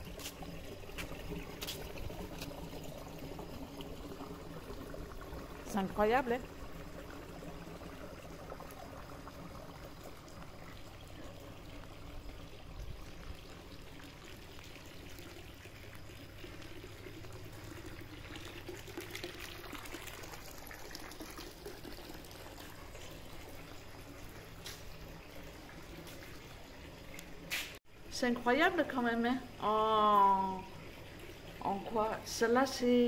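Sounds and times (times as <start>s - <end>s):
water trickling and pouring: 0.0s - 33.0s.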